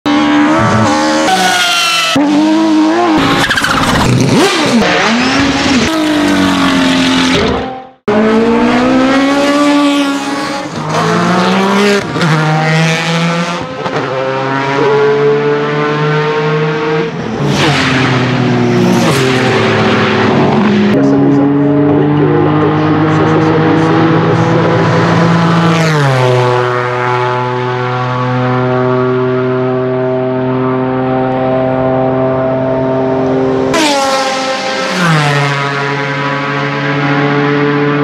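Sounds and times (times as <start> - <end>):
race car accelerating and shifting: 0.1 - 38.0
race car engines revving: 0.1 - 38.0.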